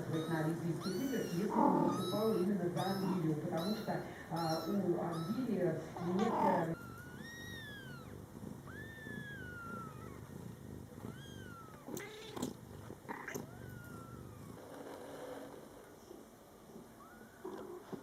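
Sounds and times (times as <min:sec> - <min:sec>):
kittens mewing: 0:00.0 - 0:14.9
low steady purr: 0:00.0 - 0:18.0.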